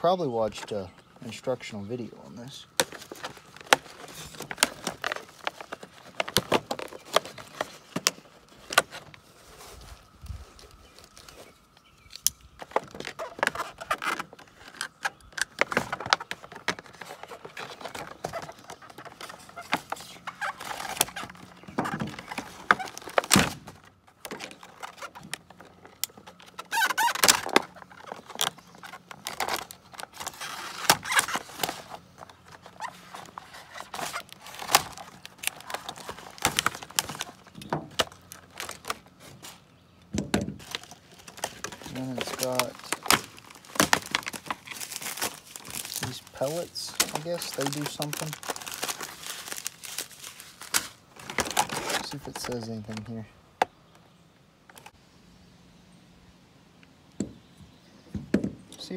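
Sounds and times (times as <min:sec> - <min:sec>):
plastic packaging crackling: 0:00.1 - 0:53.2.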